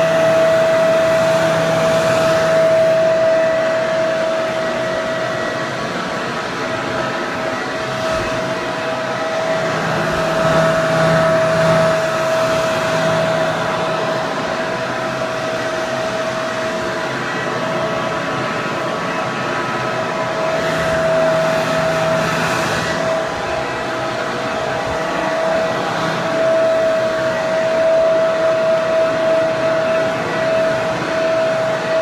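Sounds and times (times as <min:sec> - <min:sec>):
hair dryer running: 0:00.0 - 0:32.0.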